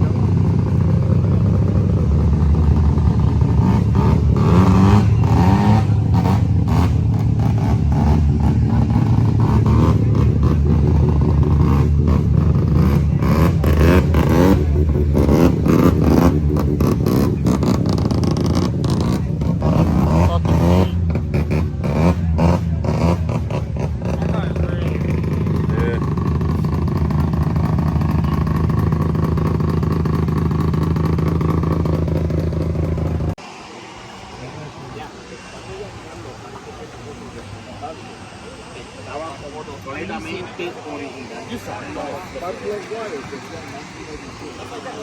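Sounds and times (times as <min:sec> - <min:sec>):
car engine revving: 0:00.0 - 0:45.0
car engine running: 0:00.0 - 0:45.0.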